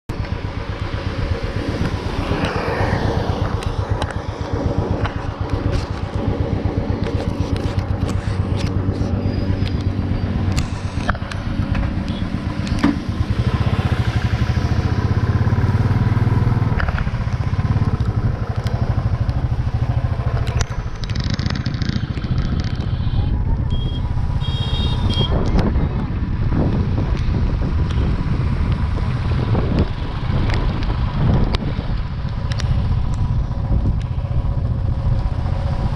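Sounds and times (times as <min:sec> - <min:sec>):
wind and road noise: 0:00.0 - 0:35.9
motorcycle engine running: 0:00.1 - 0:35.9.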